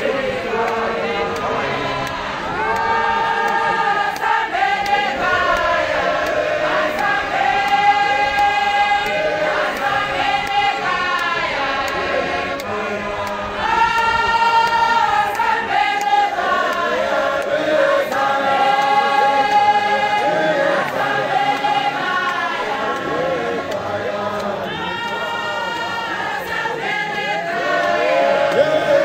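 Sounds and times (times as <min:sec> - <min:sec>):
congregation singing a hymn: 0:00.0 - 0:29.0.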